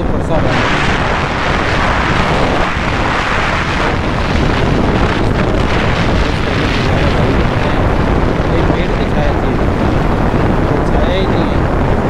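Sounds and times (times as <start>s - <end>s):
wind blasting over microphone: 0.0s - 12.0s.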